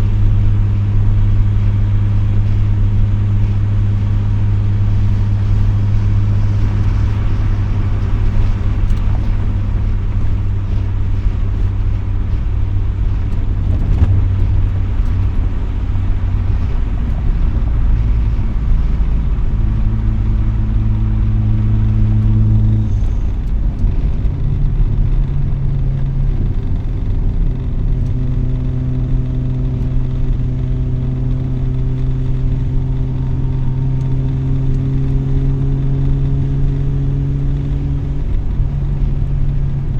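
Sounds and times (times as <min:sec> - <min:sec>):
rotary engine exhaust note: 0:00.0 - 0:39.9.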